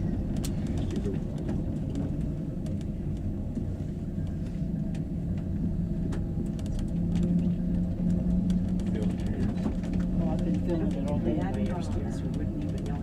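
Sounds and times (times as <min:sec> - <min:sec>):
vehicle interior rumble: 0:00.0 - 0:13.0.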